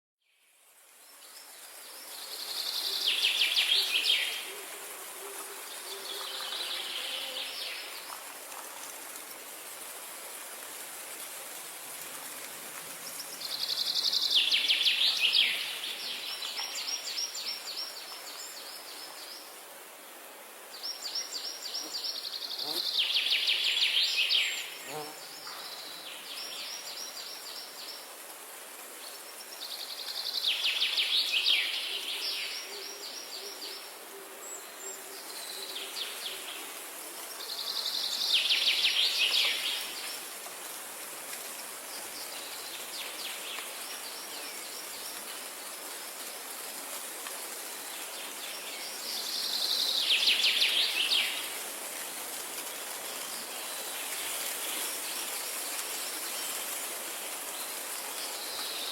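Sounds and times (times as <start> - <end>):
steady background hiss: 0.3 - 58.9.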